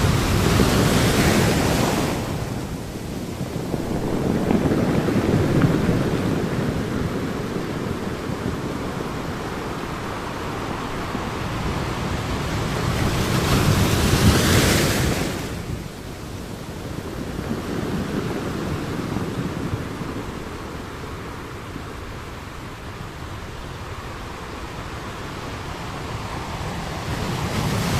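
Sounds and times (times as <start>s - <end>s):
ocean surf rushing: 0.0s - 27.9s.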